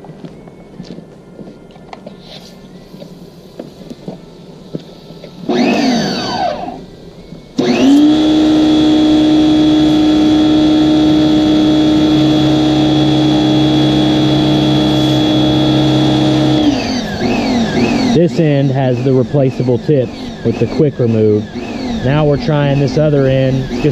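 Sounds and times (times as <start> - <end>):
pressure washer motor whining and humming: 3.7 - 23.9.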